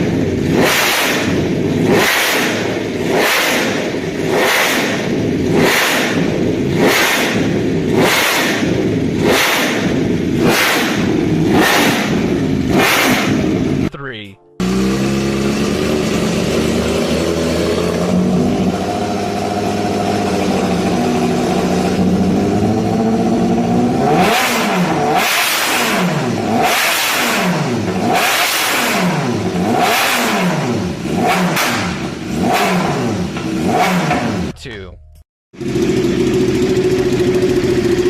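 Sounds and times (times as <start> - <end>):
motorcycle engine revving: 0.0 - 13.9, 14.6 - 38.0.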